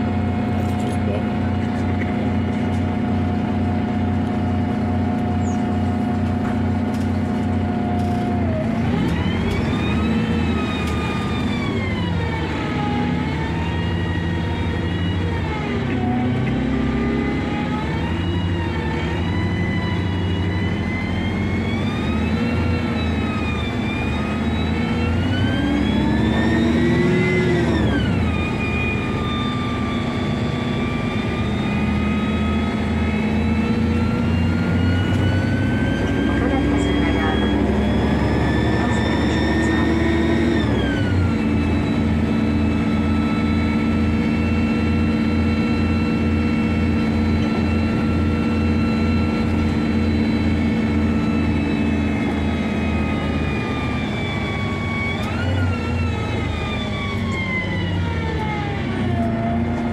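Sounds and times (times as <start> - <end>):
bus engine accelerating: 0.0 - 59.9.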